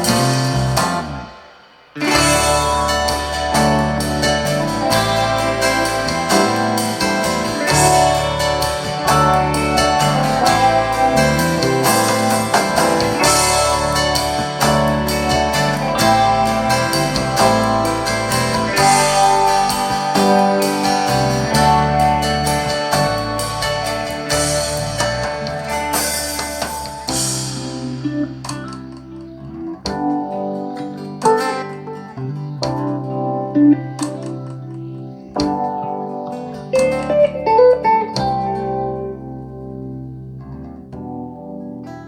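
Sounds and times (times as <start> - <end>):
music through loudspeakers: 0.0 - 38.8.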